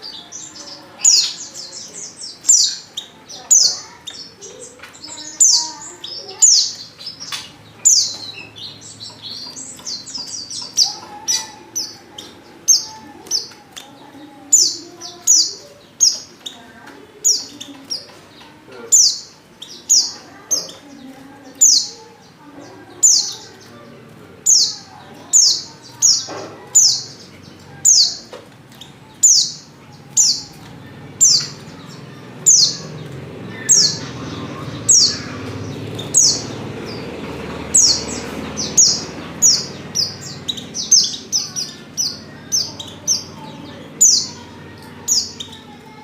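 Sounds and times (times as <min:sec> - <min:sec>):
bird chirping: 0:00.0 - 0:46.0.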